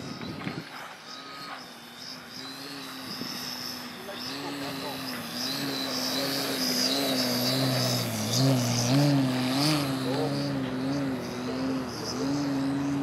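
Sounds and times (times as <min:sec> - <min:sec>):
high electric motor whine: 0:00.0 - 0:13.0
model plane propeller drone: 0:00.0 - 0:13.0.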